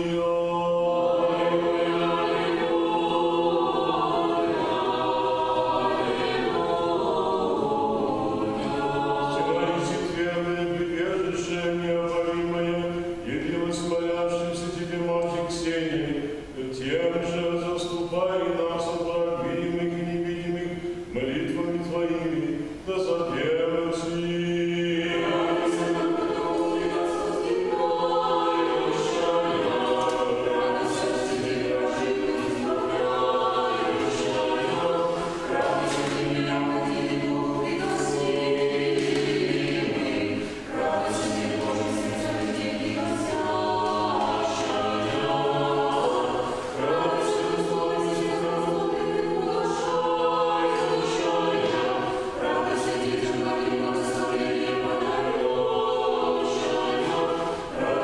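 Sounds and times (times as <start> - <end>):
church choir chanting: 0.0 - 58.0.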